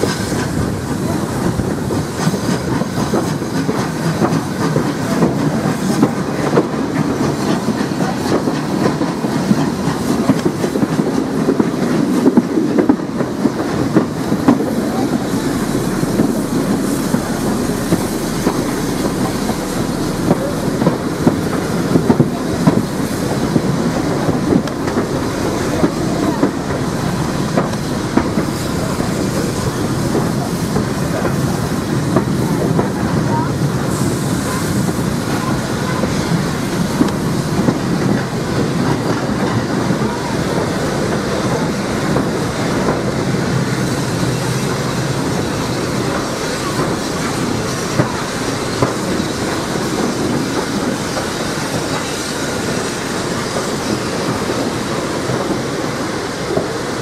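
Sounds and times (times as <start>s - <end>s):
train wheels rumbling on rails: 0.0s - 57.0s
wheels clicking over rail joints: 0.0s - 57.0s.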